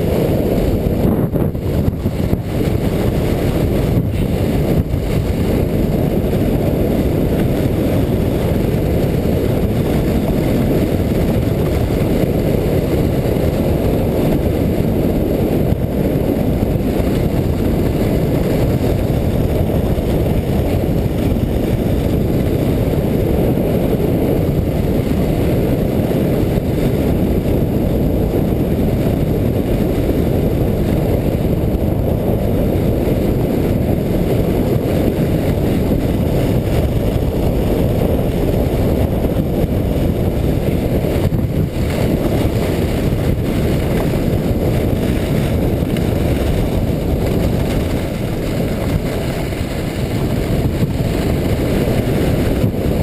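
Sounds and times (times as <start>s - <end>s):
sled sliding on snow: 0.0s - 53.0s
wind rushing over microphone: 0.0s - 53.0s.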